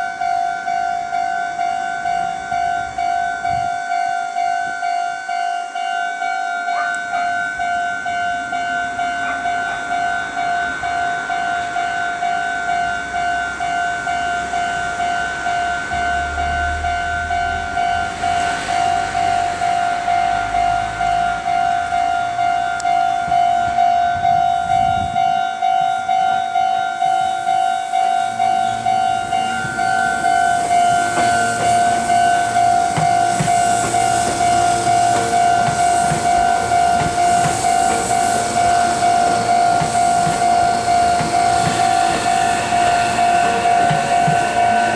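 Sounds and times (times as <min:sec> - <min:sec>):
level crossing bell ringing: 0:00.0 - 0:44.9
train wheel and rail noise: 0:00.0 - 0:44.9.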